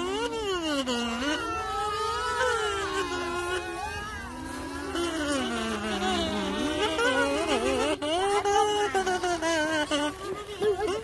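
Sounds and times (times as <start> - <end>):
kazoos humming: 0.0 - 11.0.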